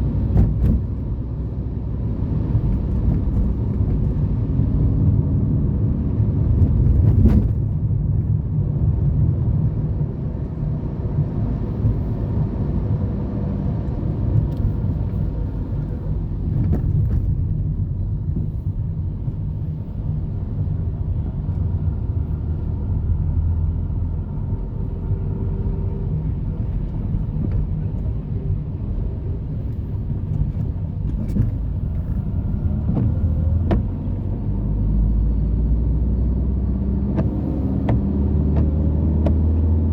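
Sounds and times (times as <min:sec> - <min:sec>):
car low rumble: 0:00.0 - 0:39.9.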